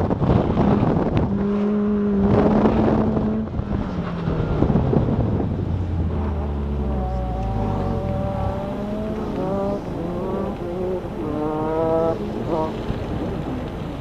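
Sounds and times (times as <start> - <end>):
car engine low drone: 0.0 - 14.0.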